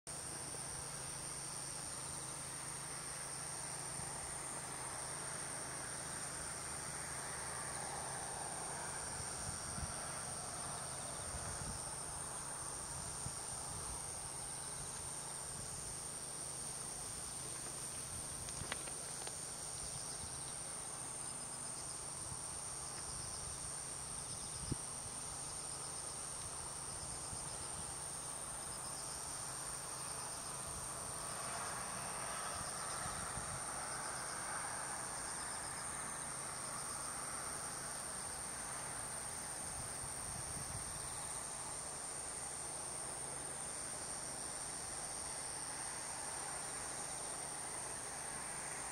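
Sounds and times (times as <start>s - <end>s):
insects trilling: 0.1s - 48.9s
quiet pulsing insect song: 0.1s - 48.9s.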